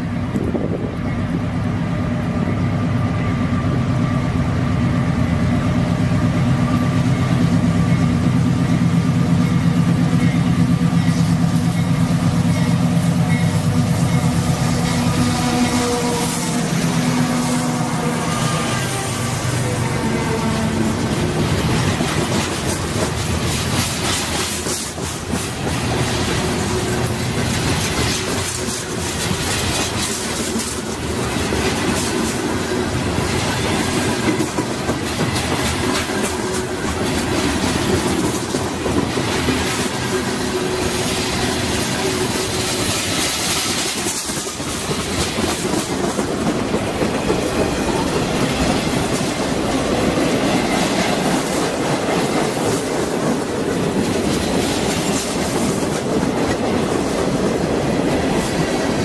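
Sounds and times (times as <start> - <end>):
train wheels clattering over rails: 5.2 - 59.0.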